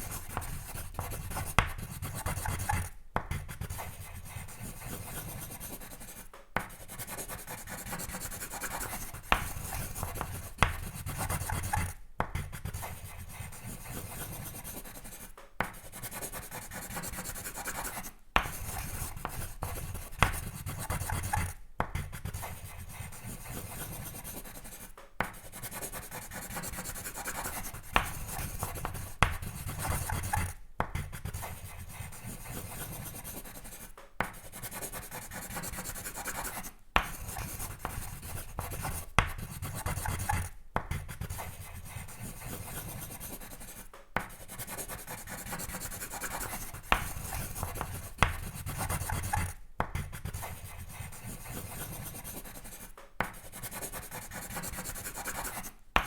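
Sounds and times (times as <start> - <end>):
pencil scratching on paper: 0.0 - 56.0.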